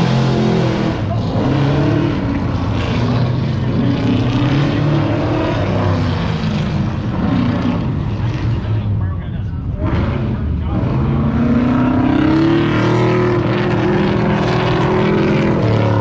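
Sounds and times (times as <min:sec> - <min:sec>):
car engine revving hard: 0:00.0 - 0:08.9, 0:09.8 - 0:16.0.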